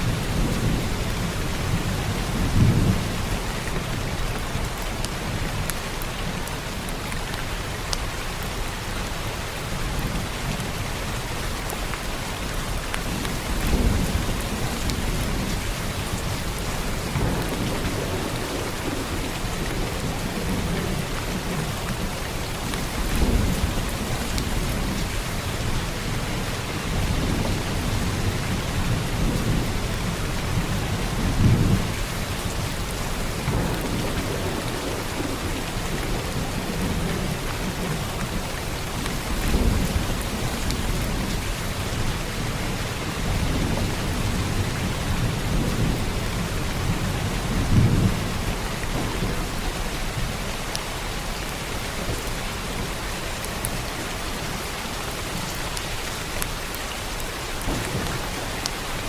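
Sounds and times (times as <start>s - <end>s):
low rumble of thunder: 0.0s - 7.2s, 9.5s - 59.0s
heavy rain falling: 0.0s - 59.0s.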